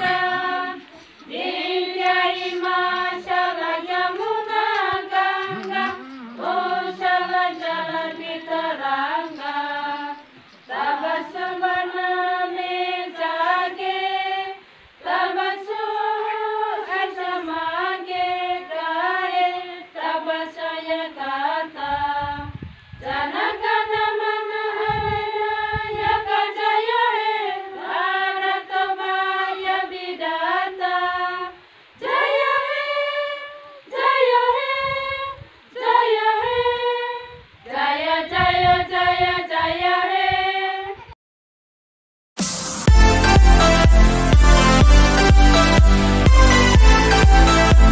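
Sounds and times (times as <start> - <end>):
women singing in unison: 0.0 - 41.2.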